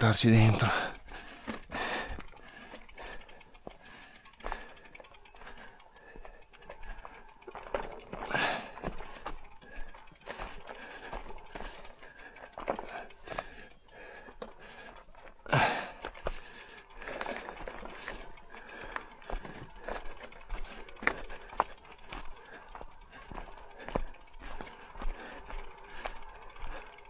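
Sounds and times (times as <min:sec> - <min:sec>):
bike rattling over rocks: 0:00.0 - 0:27.0
bike heavy jolt: 0:00.6 - 0:27.0.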